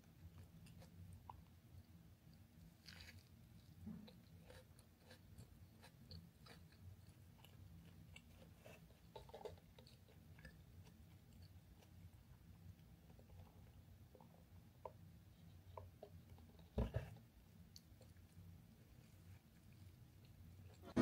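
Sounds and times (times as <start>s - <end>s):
crunchy chewing: 0.0s - 20.9s.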